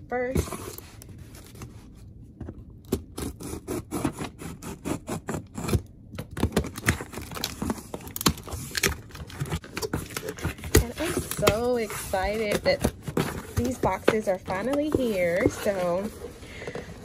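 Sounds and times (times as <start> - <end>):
cardboard scraping and crackling: 3.0 - 17.0.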